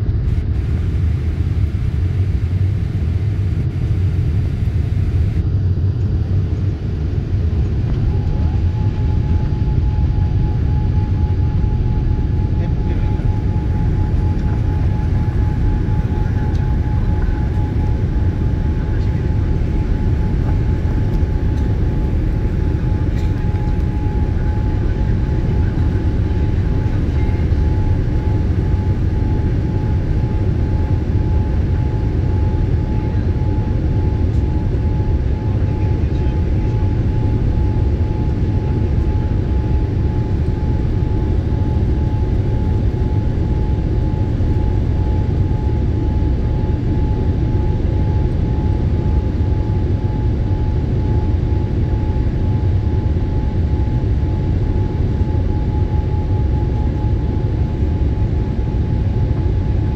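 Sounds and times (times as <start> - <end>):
airliner cabin noise: 0.0 - 59.9.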